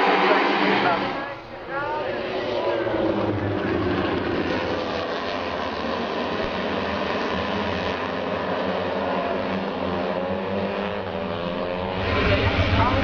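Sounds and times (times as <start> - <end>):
racing engines droning: 0.0 - 13.0.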